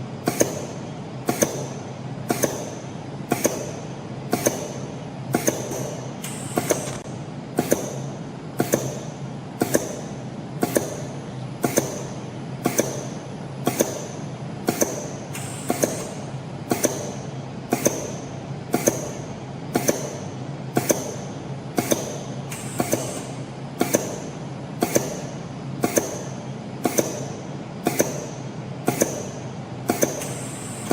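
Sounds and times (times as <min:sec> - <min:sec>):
spring coiling machine hum: 0:00.0 - 0:30.9.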